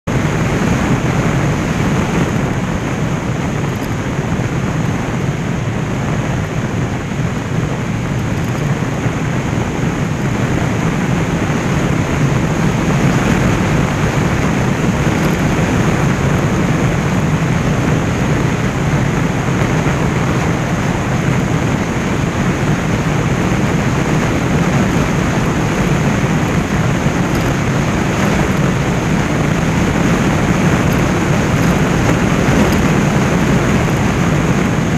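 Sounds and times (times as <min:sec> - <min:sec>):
motorcycle engine drone: 0:00.0 - 0:34.9
wind over microphone: 0:00.0 - 0:34.9.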